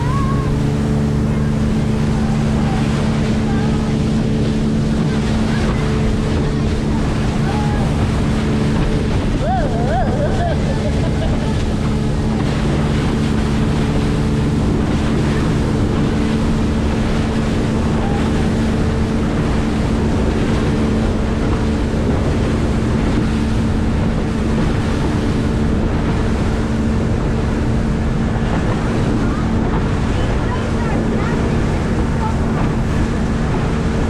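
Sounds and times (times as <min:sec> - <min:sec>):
boat engine running: 0:00.0 - 0:34.0
wind buffeting microphone: 0:00.0 - 0:34.0.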